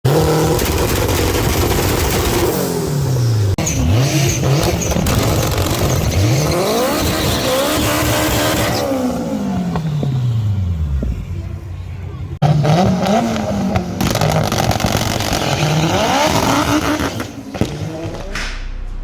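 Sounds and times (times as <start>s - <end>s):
car engine revving: 0.1s - 11.1s, 12.4s - 19.0s.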